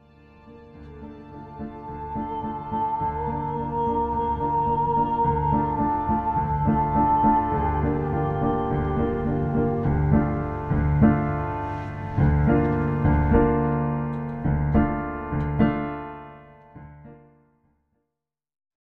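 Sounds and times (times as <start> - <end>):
slow piano chords: 0.0 - 17.6.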